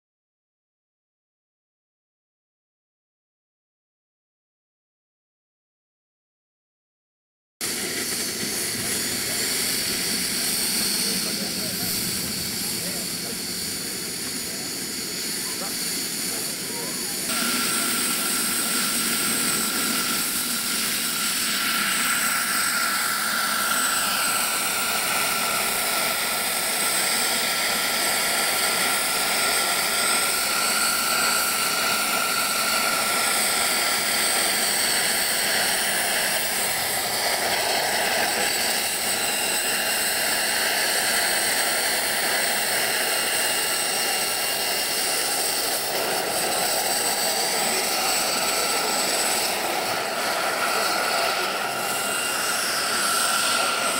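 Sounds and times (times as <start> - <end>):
model helicopter turbine whine: 7.6 - 53.9.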